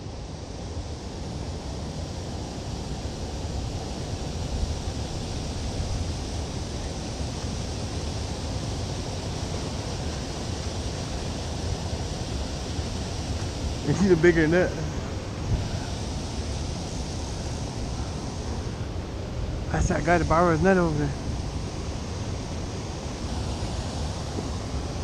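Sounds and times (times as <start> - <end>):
water rushing over dam spillway: 0.0 - 25.0.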